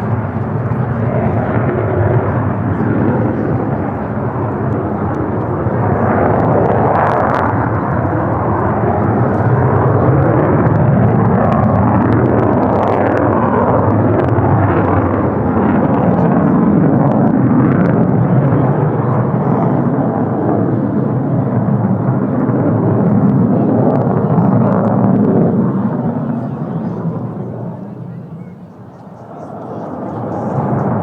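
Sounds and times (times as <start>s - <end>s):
fighter jet roar: 0.0s - 31.0s.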